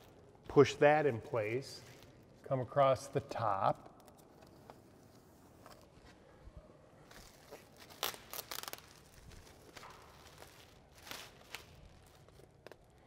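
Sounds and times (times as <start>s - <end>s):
plastic film crinkling: 0.0s - 6.0s, 7.0s - 13.0s.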